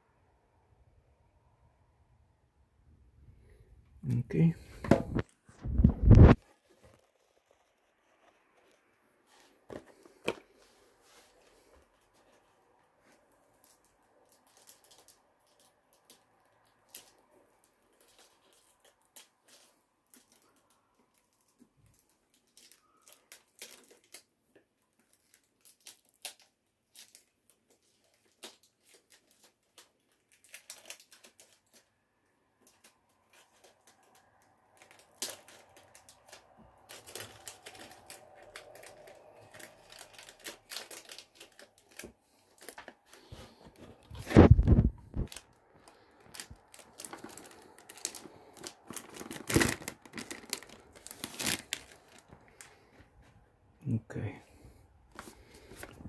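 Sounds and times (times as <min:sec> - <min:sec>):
cellophane crinkling and tearing: 0:05.6 - 0:10.4, 0:11.0 - 0:53.0.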